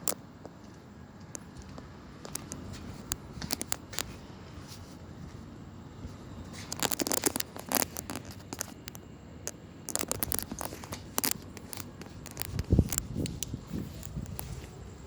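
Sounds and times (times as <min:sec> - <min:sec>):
crackling and scraping clicks: 0:00.0 - 0:04.9, 0:06.5 - 0:14.9.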